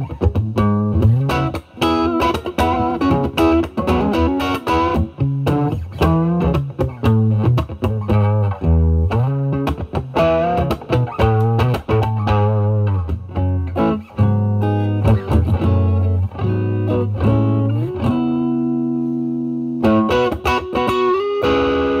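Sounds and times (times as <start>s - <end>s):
overdriven electric guitar: 0.0s - 22.0s.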